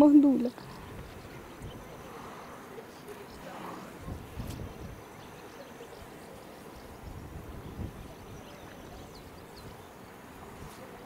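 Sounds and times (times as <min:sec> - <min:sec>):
wind rumbling on microphone: 0:00.0 - 0:02.5, 0:03.2 - 0:11.0.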